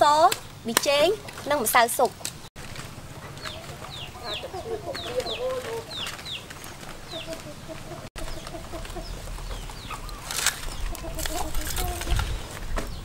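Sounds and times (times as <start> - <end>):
chickens clucking: 1.1 - 12.5.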